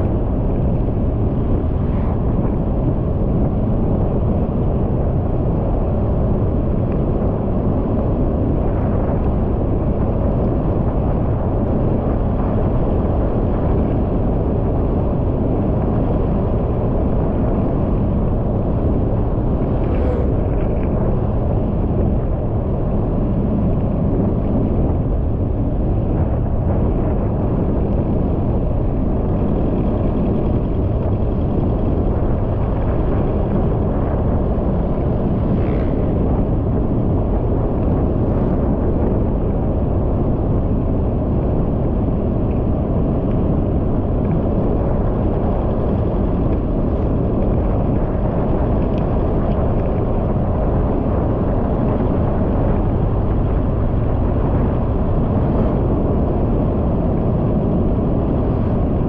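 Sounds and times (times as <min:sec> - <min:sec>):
vehicle wind and road noise: 0:00.0 - 0:59.0.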